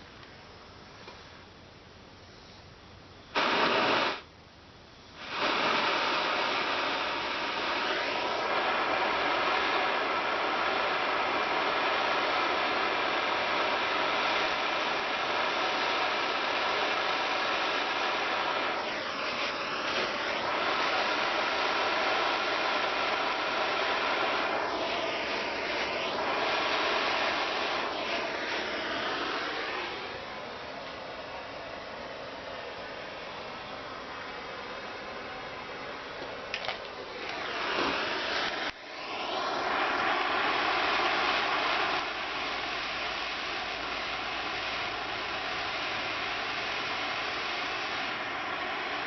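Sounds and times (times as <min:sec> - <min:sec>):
propane torch flame hissing: 0:03.3 - 0:04.3, 0:05.0 - 0:49.0.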